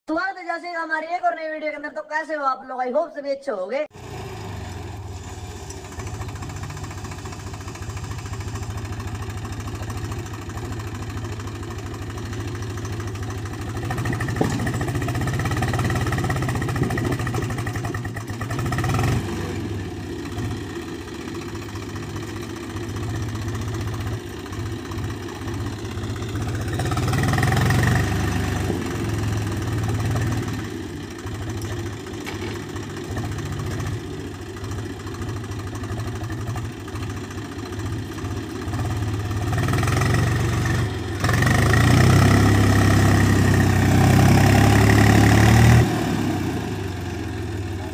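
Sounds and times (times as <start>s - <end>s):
tractor diesel engine running: 3.9s - 47.9s.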